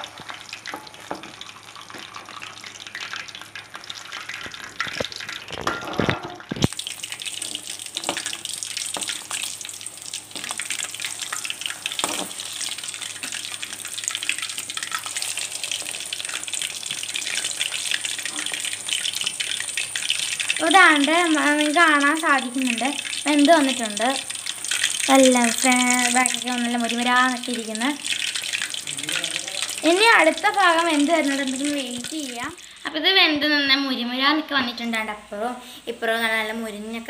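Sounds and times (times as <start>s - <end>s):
oil sizzling and crackling: 0.0s - 33.1s.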